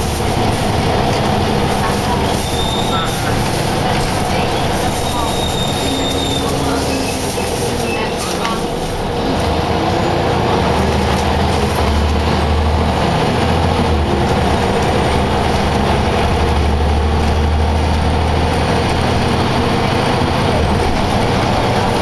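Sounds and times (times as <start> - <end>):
bus diesel engine droning: 0.0 - 22.0
road and body noise: 0.0 - 22.0.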